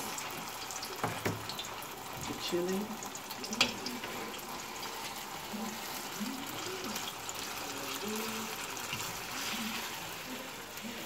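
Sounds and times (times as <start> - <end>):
chili paste sizzling in oil: 0.0 - 11.0.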